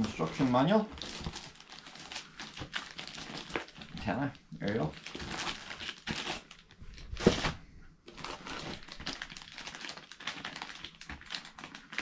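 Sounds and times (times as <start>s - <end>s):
plastic bags crinkling: 0.0s - 12.0s
sharp plastic crackle: 0.0s - 12.0s.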